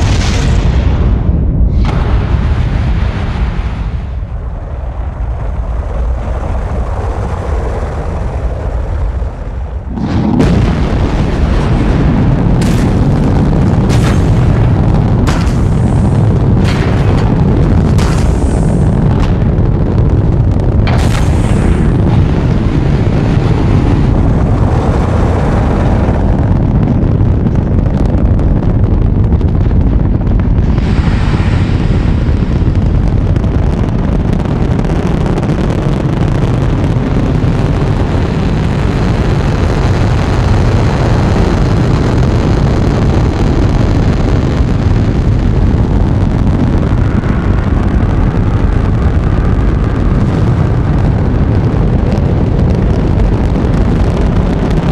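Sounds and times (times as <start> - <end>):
rocket engines rumbling: 0.0 - 54.9.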